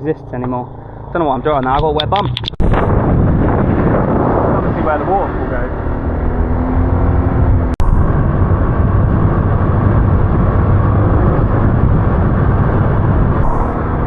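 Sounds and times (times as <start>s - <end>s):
motor scooter engine and road noise: 0.0s - 14.0s.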